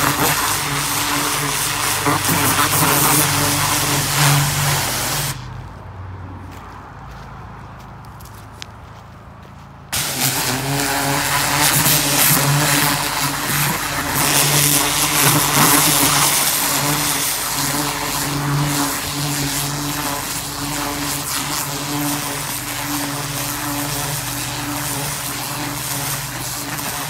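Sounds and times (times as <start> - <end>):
pressure washer motor hum: 0.0 - 5.5, 10.0 - 27.0
water jet blasting soil: 0.0 - 5.5, 9.9 - 27.0.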